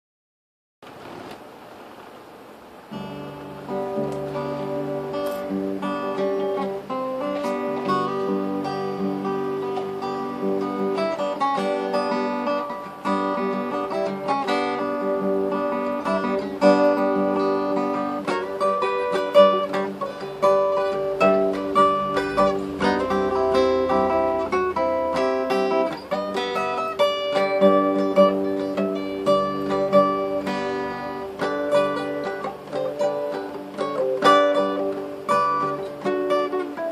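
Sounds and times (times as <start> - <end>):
acoustic guitar fingerstyle: 0.8 - 36.9.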